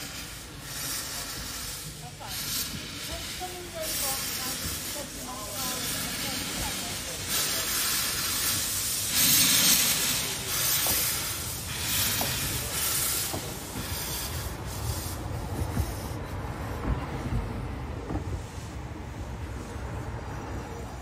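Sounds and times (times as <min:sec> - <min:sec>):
steam locomotive hissing steam: 0:00.0 - 0:21.0.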